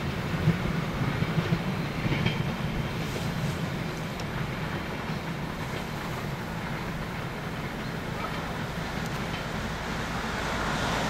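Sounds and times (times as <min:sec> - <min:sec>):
steam train rumble: 0:00.0 - 0:11.0.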